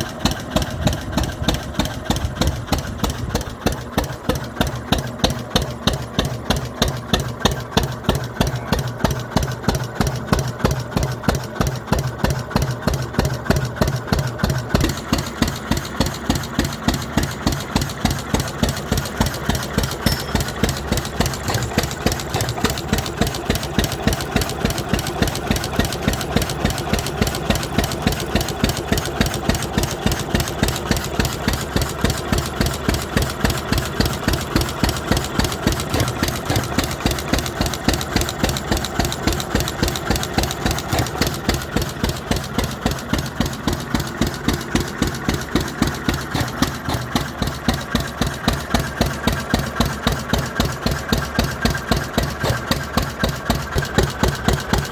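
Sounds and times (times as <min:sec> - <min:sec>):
stationary engine running: 0:00.0 - 0:54.9.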